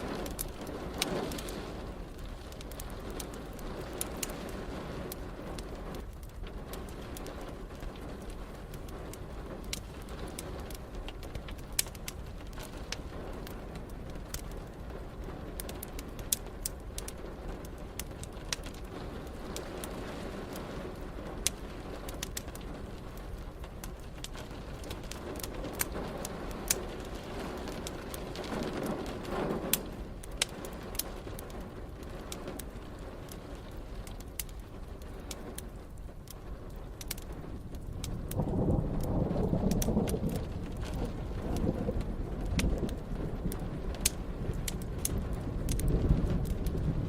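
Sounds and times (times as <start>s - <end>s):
low thunder rumble: 0.0s - 47.0s
rain hissing: 0.0s - 47.0s
wood fire crackling and popping: 0.0s - 47.0s.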